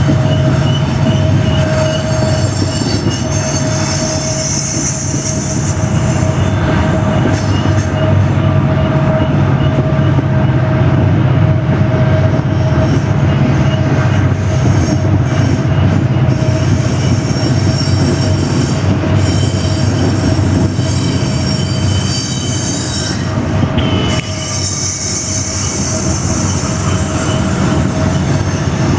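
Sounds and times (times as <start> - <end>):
wheel flange squeal: 0.0 - 10.7, 12.1 - 28.9
locomotive engine rumble: 0.0 - 28.9.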